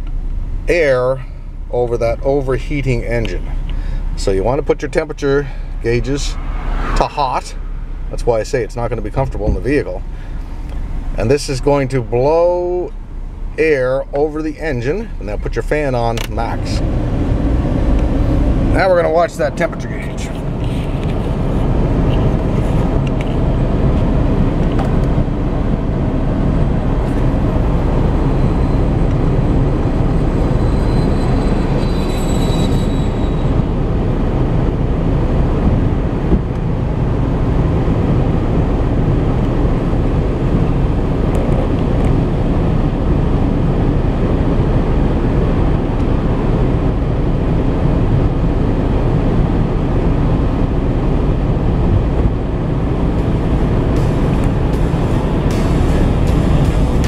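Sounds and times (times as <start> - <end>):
car engine idling: 0.0 - 44.0, 48.4 - 57.0
heater blower fan rushing: 5.4 - 32.0, 33.5 - 57.0.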